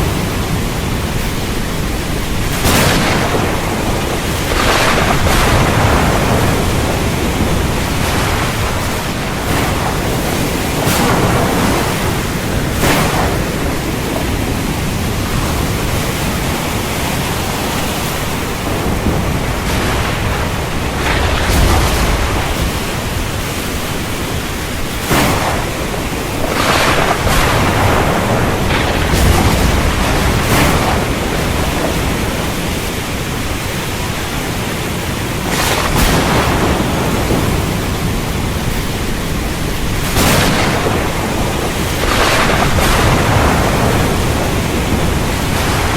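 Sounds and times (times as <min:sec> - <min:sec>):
heavy rain: 0:00.0 - 0:45.9
thunder rumbling and cracking: 0:00.0 - 0:45.9.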